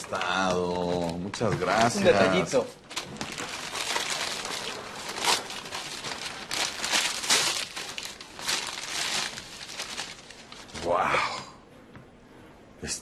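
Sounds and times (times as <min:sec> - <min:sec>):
gift wrap crinkling: 0:00.0 - 0:11.0.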